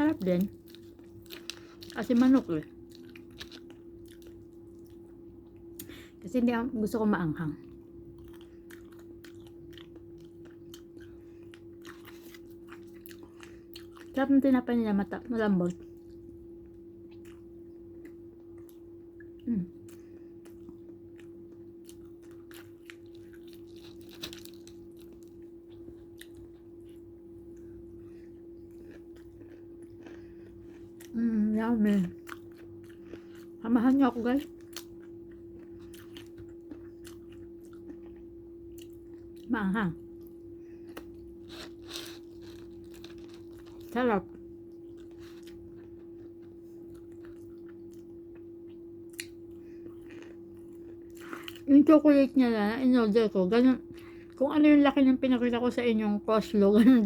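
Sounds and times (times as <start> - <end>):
person chewing food: 0.0 - 6.0, 7.6 - 14.2, 15.8 - 51.7
steady low hum: 0.0 - 57.0.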